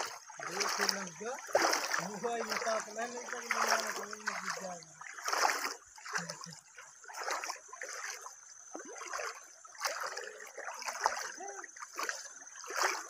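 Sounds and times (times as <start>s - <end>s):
river water splashing over rocks: 0.0s - 13.0s.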